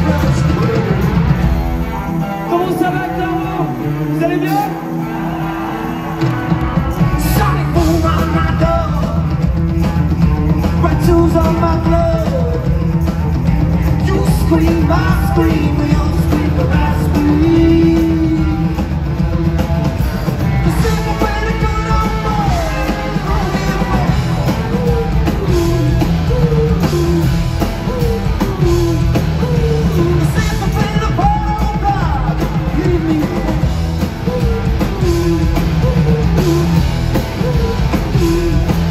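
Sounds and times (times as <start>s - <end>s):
lead singer singing: 0.0s - 38.9s
rock band playing: 0.0s - 38.9s.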